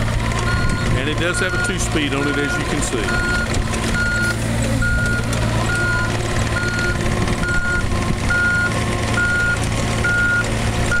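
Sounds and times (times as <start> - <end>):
diesel engine running: 0.0 - 11.0
excavator backup alarm beeping: 0.4 - 11.0.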